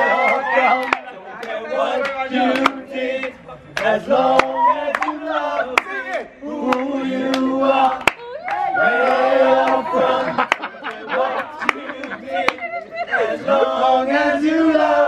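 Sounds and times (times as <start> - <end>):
men singing a cappella: 0.0 - 8.1, 8.7 - 15.0.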